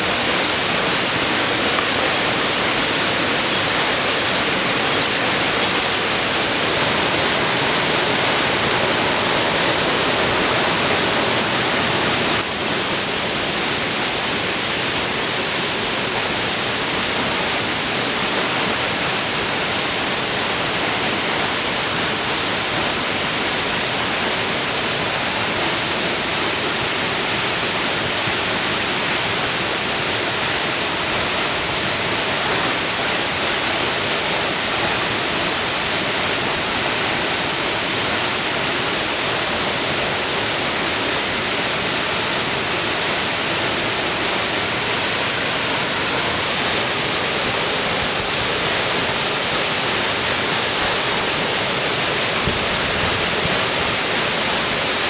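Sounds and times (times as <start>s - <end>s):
waterfall rushing: 0.0s - 21.0s, 21.9s - 55.0s.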